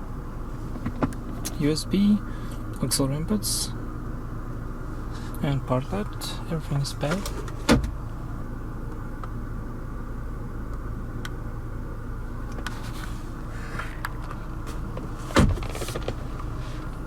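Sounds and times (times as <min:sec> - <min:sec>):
car cabin hum: 0:00.0 - 0:17.0.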